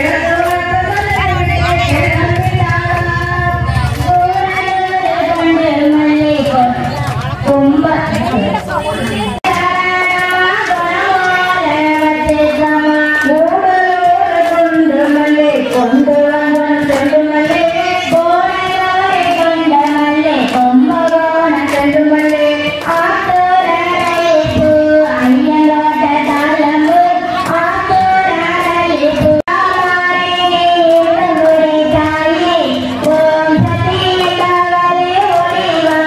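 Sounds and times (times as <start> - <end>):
rhythmic hand claps: 0.0 - 36.0
woman singing devotional song: 0.0 - 36.0.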